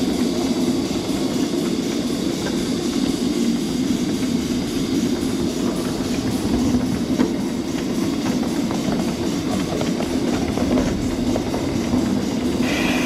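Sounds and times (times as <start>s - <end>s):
rumble of wheels on rail: 0.0s - 13.0s.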